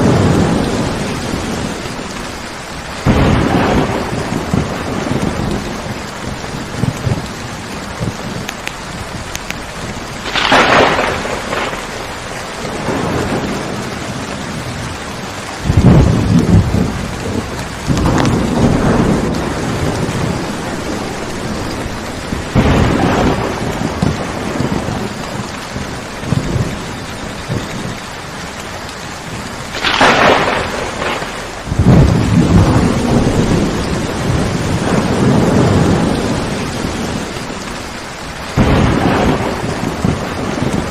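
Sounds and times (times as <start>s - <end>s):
thunder crack: 0.0s - 1.9s, 3.0s - 14.9s, 15.6s - 28.0s, 29.4s - 37.6s, 38.5s - 40.9s
heavy rain: 0.0s - 40.9s
rolling thunder rumbles: 0.0s - 40.9s.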